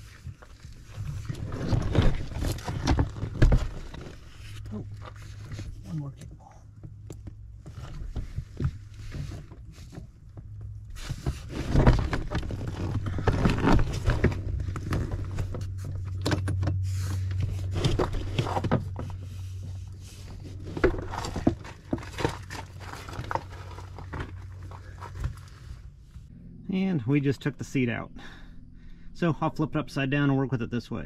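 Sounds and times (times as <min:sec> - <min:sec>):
knocks clunks and rustling: 0:00.0 - 0:26.3
low steady hum: 0:00.0 - 0:31.0.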